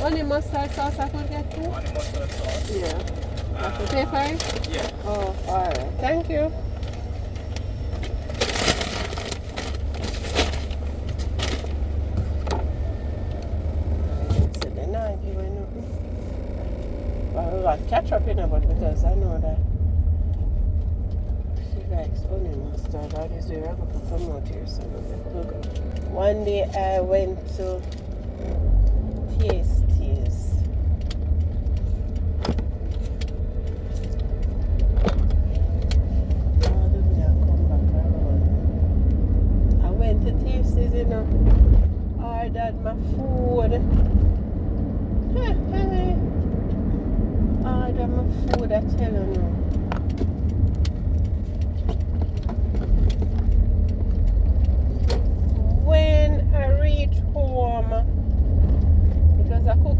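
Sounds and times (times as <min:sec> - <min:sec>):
car engine idling hum: 0:00.0 - 0:59.9.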